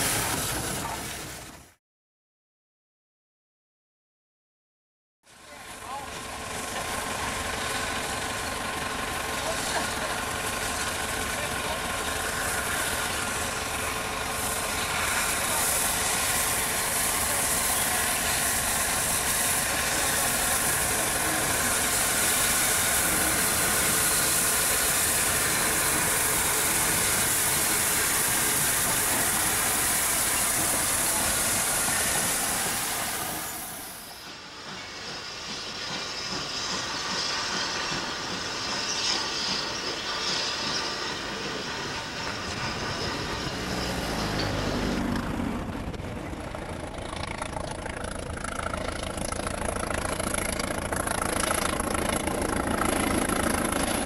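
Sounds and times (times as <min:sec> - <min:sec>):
steam locomotive hissing steam: 0:00.0 - 0:01.6, 0:05.3 - 0:48.0, 0:48.7 - 0:54.0
diesel locomotive hauling coaches: 0:00.0 - 0:01.8, 0:05.3 - 0:54.0.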